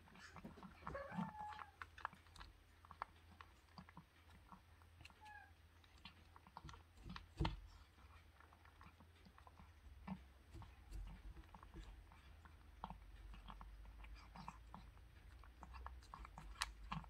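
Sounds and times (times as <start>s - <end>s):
cat crunching dry kibble: 0.0s - 17.0s.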